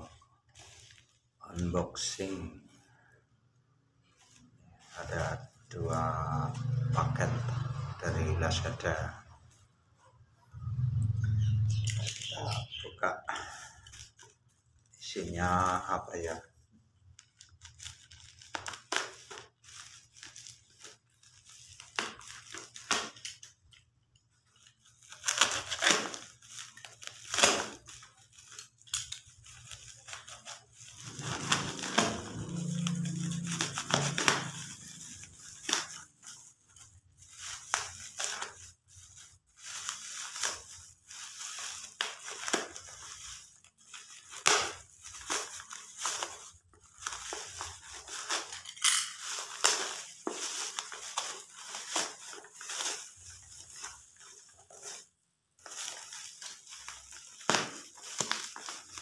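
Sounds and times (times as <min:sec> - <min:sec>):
plastic crinkling and tearing: 0:00.0 - 0:03.2, 0:04.0 - 0:59.0
blade cutting plastic wrapping: 0:00.5 - 0:02.5, 0:04.2 - 0:09.2, 0:11.1 - 0:16.4, 0:17.0 - 0:59.0.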